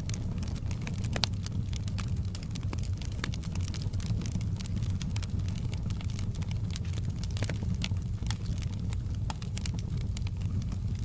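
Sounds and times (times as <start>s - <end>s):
fire crackling and popping: 0.0s - 11.0s
low rumble of flames: 0.0s - 11.0s.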